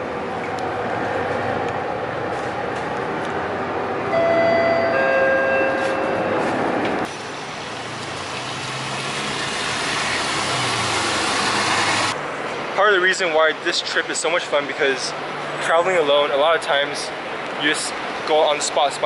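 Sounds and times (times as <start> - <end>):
bus engine and road noise: 0.0 - 19.0
traffic noise: 0.0 - 19.0.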